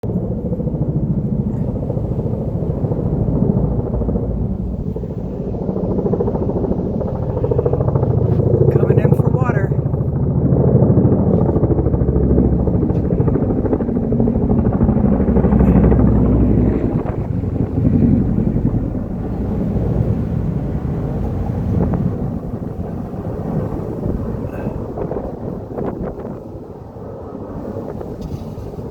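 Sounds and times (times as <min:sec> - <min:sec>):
helicopter rotor beating: 0:00.0 - 0:28.9.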